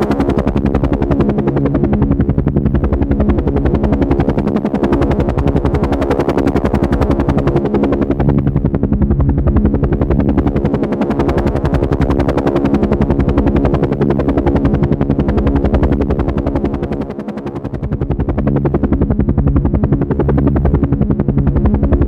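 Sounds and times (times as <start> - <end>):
helicopter engine tone: 0.0 - 22.0
helicopter rotor chopping: 0.0 - 22.0.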